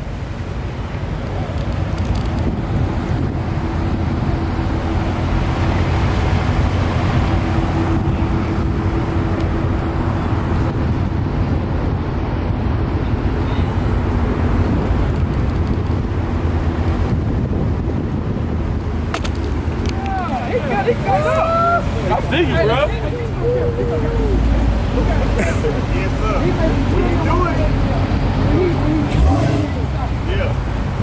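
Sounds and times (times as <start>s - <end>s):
wind noise on microphone: 0.0s - 25.0s
car engines rumbling: 0.0s - 31.0s.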